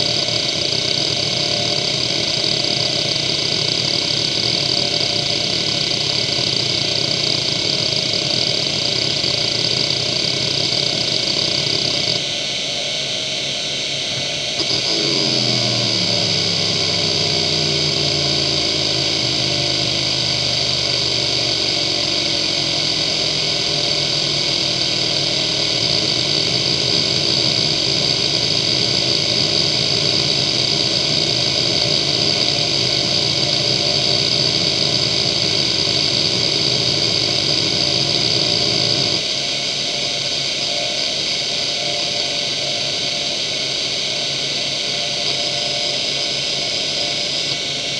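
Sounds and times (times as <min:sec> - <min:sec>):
hard drive seeking buzz: 0:00.0 - 0:47.9
high steady whine: 0:00.0 - 0:47.9.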